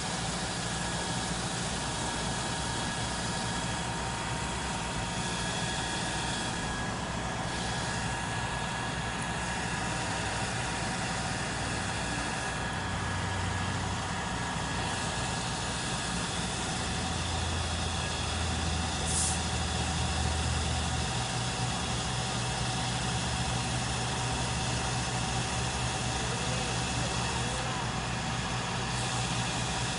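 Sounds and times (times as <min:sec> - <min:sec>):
truck engine running: 0:00.0 - 0:29.9.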